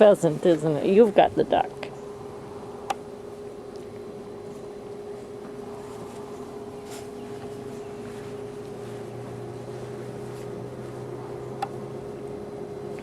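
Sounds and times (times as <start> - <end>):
low drone: 0.0 - 13.0
steady mechanical hum: 0.0 - 13.0.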